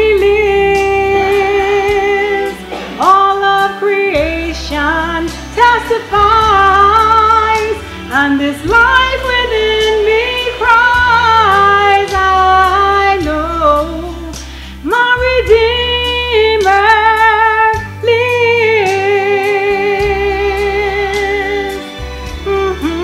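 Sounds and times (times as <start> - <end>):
deep bass line: 0.0 - 23.0
instrumental accompaniment: 0.0 - 23.0
woman singing gospel: 0.0 - 23.0.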